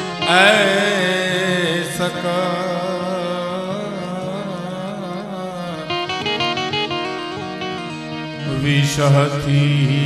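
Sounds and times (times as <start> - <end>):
harmonium and keyboard melody: 0.0 - 10.0
harmonium drone: 0.0 - 10.0.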